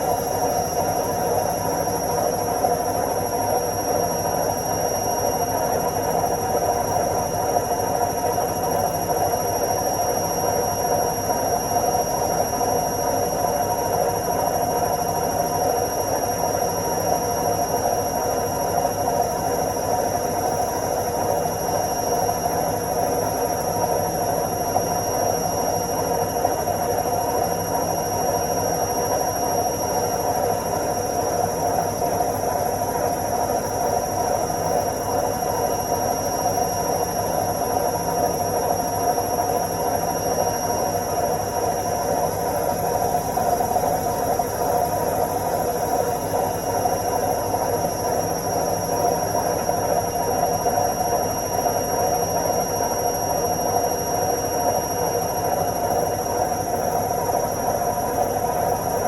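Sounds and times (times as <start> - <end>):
high steady whine: 0.0 - 59.0
washing machine spinning: 0.0 - 59.0.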